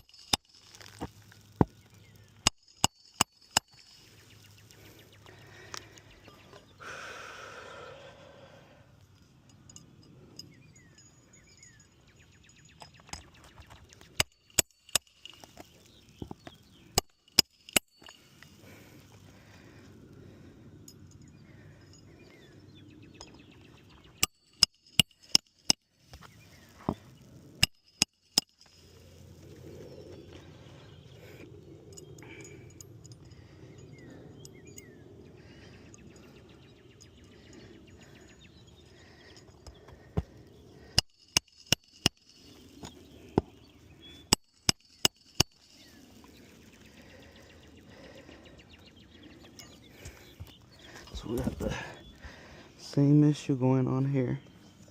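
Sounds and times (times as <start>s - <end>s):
birds chirping faintly: 0.0s - 54.9s.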